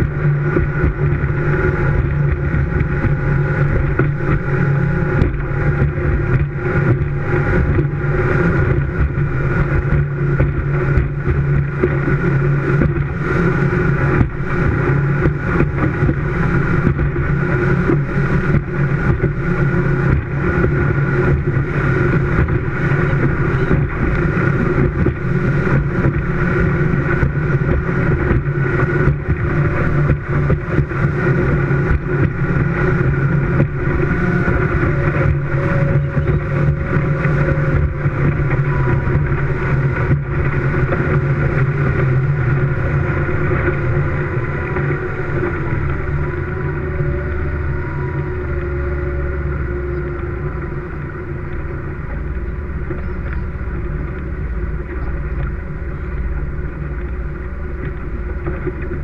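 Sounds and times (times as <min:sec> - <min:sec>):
speedboat engine running: 0:00.0 - 0:59.0
water rushing: 0:00.0 - 0:59.0
wind: 0:00.0 - 0:59.0.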